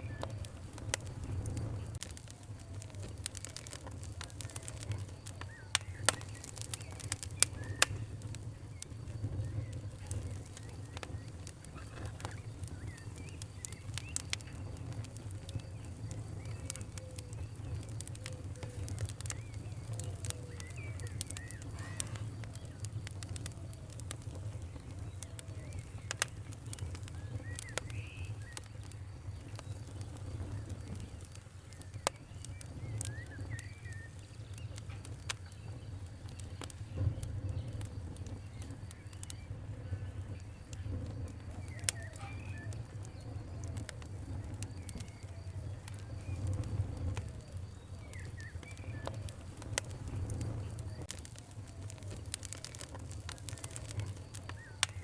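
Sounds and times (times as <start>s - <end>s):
birds chirping faintly: 0.0s - 55.0s
fire crackling and popping: 0.0s - 55.0s.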